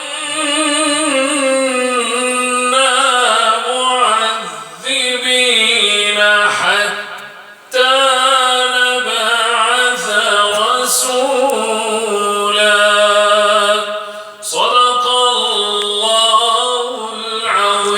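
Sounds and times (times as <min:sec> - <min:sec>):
man chanting melodically: 0:00.0 - 0:17.9.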